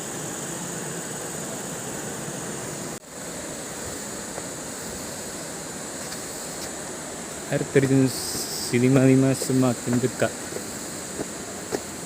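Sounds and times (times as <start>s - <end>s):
high insect drone: 0.0s - 12.0s
steady rushing noise: 0.0s - 12.0s.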